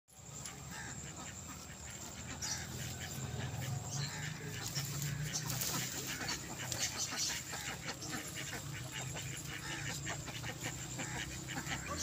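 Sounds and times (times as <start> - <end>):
leafy vines rustling: 0.1 - 12.0.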